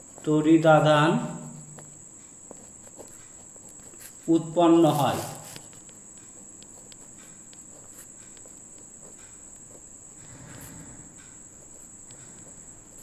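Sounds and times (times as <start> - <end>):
pen scratching on paper: 1.4 - 13.0.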